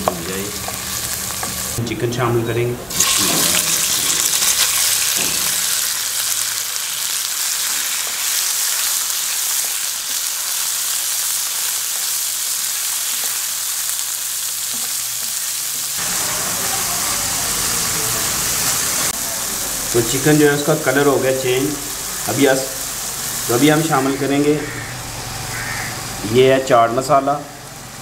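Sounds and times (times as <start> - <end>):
chicken sizzling in oil: 0.0 - 1.8, 2.9 - 28.0.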